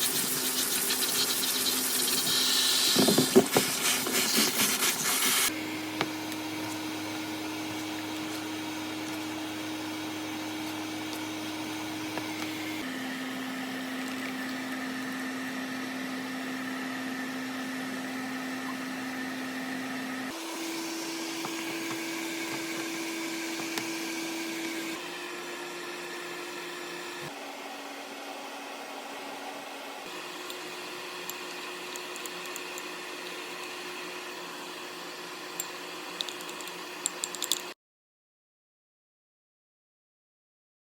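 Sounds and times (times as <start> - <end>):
kitchen appliance humming: 0.0 - 37.7.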